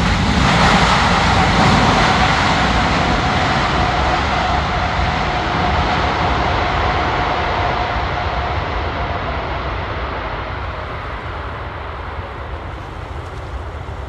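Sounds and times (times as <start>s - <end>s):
jet engine whine: 0.0s - 14.0s
jet engines roaring: 0.0s - 14.0s.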